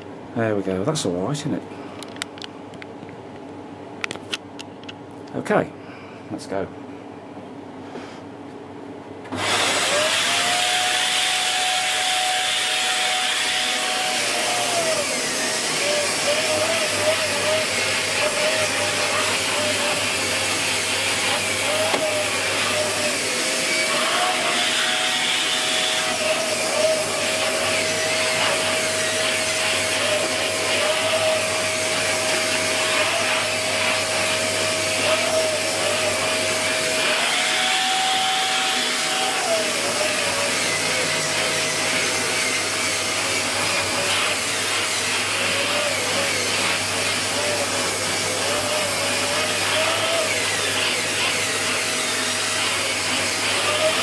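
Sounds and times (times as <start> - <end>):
vacuum cleaner running: 9.2 - 54.0.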